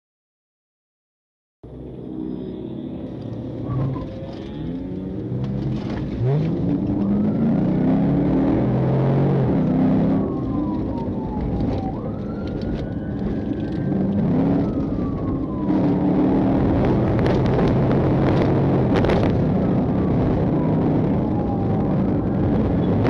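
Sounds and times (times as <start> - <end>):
car engine revving: 1.7 - 23.0
police siren wailing: 1.8 - 23.0.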